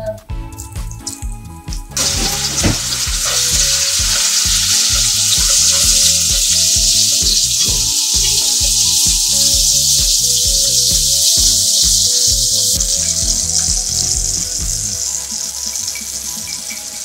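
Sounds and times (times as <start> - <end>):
mushrooms sizzling in hot oil: 1.9 - 17.0
chopsticks stir-frying in pan: 2.0 - 17.0.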